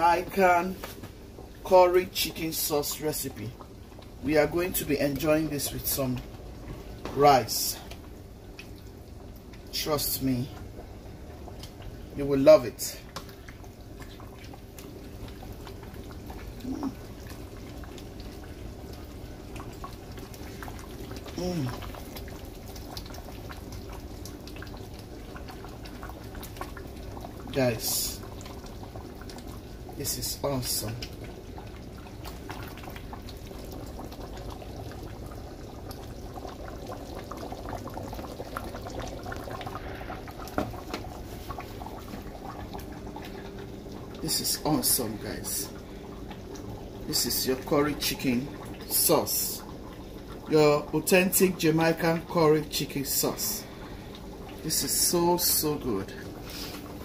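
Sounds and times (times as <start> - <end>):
low steady hum: 0.0 - 57.0
sauce bubbling in a pot: 0.0 - 57.0.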